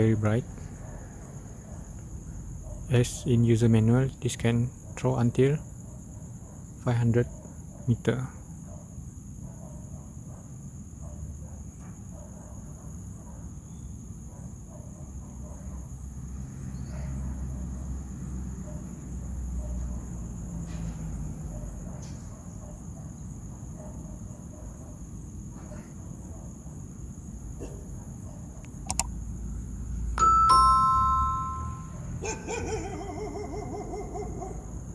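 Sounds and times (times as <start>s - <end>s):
crickets trilling: 0.0s - 29.9s, 32.2s - 34.9s.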